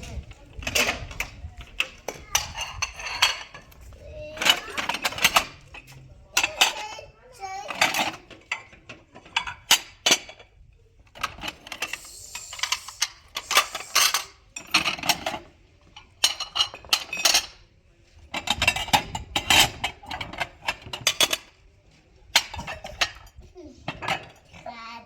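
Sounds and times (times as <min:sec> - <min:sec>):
hard objects clattering: 0:00.0 - 0:17.6, 0:18.2 - 0:21.6, 0:22.3 - 0:24.7.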